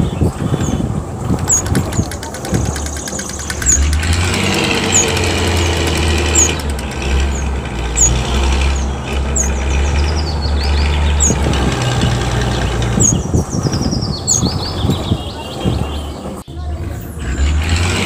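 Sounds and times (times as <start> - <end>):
heavy vehicle engine idling: 0.0 - 18.0.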